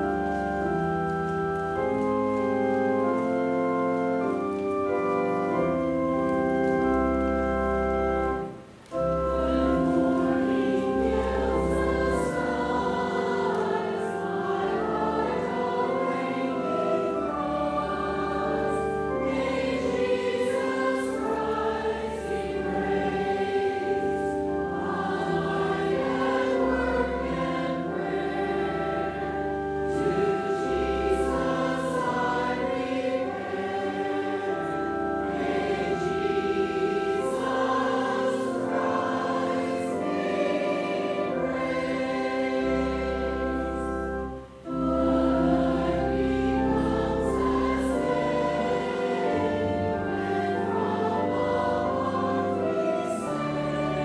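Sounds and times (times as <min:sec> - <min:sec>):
congregation singing a hymn: 0:00.0 - 0:54.0
organ chords: 0:00.0 - 0:54.0.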